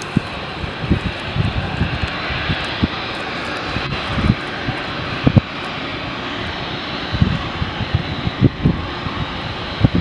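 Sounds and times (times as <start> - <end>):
jet engines running: 0.0 - 10.0
wind buffeting microphone: 0.0 - 10.0.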